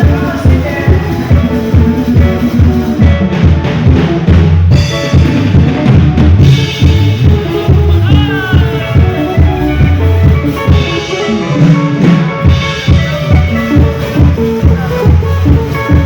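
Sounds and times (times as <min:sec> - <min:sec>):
live band playing loud music: 0:00.0 - 0:16.0.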